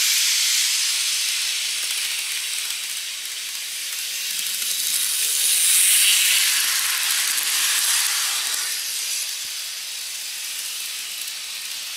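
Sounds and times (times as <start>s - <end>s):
model train hissing rush: 0.0s - 11.9s.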